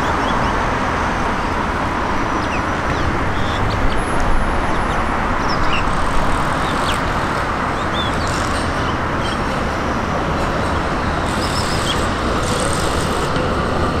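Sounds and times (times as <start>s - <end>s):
road traffic noise: 0.0s - 14.0s
tram rolling on track: 0.0s - 14.0s.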